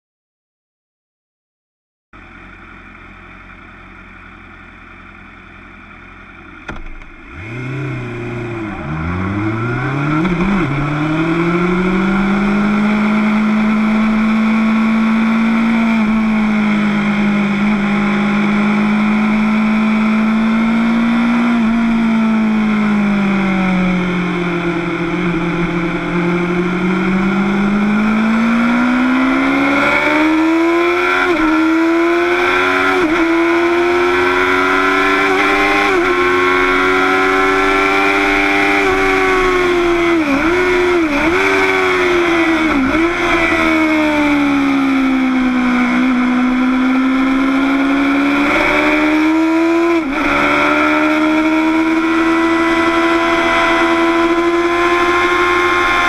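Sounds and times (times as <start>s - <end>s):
motorcycle engine revving: 2.4s - 56.0s.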